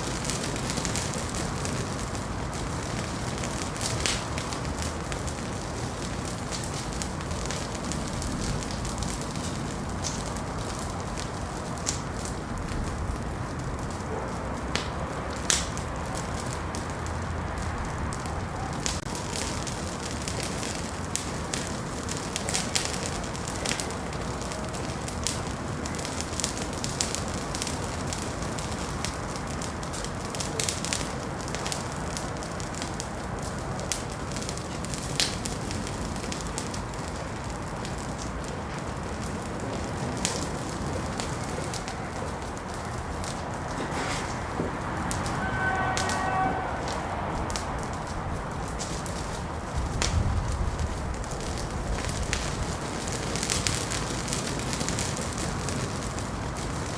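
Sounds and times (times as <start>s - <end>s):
fire crackles and pops: 0.0s - 56.9s
wood fire hiss and rumble: 0.0s - 56.9s.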